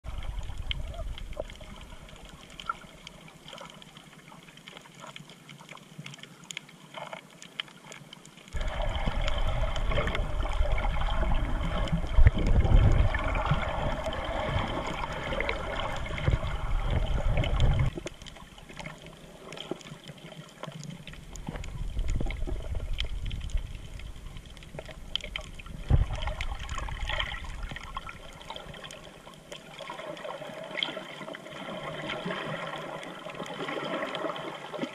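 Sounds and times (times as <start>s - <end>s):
faint crackles: 0.0s - 34.9s
water sloshing underwater: 0.0s - 34.9s.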